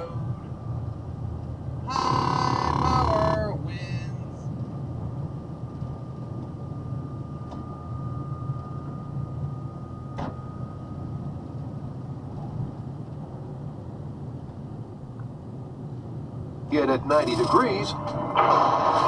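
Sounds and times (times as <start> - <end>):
faint steady whine: 0.0 - 19.0
road noise: 0.0 - 19.0
truck engine drone: 0.0 - 19.0.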